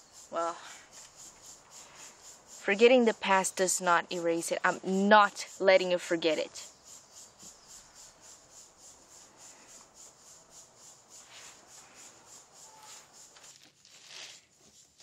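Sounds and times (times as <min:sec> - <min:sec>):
faint rapid high pulsing: 0:00.0 - 0:13.4
background hiss: 0:00.0 - 0:15.0.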